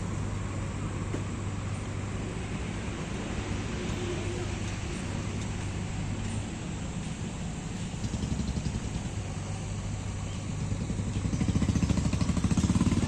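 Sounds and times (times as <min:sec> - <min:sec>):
heavy machinery engine running: 0:00.0 - 0:13.0.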